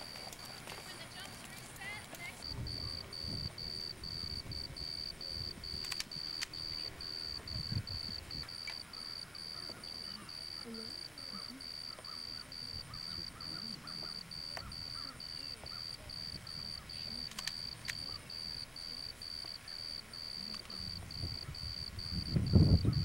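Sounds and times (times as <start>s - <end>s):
high pulsed insect chirping: 1.8s - 23.0s.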